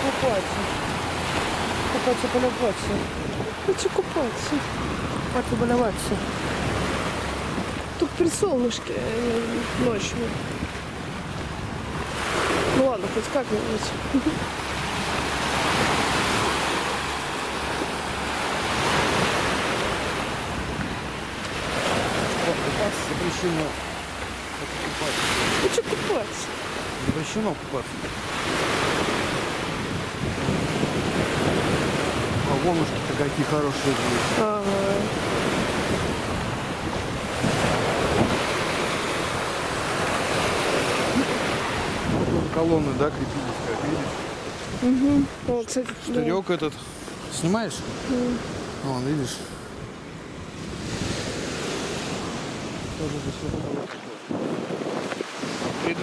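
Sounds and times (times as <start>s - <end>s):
wind rumbling on microphone: 0.0s - 46.1s, 49.6s - 56.0s
sea waves washing on shore: 0.0s - 56.0s.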